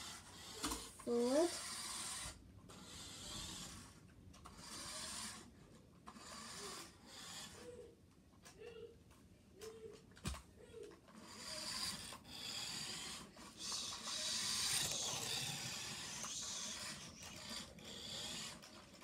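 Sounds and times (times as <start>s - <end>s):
toy car electric motor whirring: 0.0s - 8.9s, 9.6s - 19.0s.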